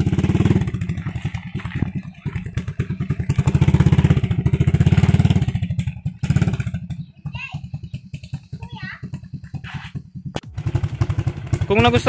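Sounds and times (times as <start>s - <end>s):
motorcycle engine pulsing exhaust: 0.0s - 12.0s.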